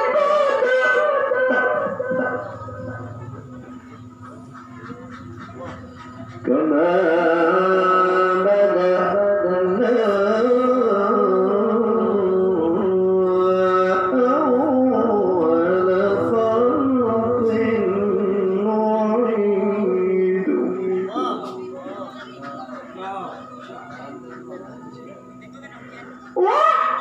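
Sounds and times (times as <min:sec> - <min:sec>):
man chanting melodic recitation: 0:00.0 - 0:03.3, 0:05.7 - 0:24.9.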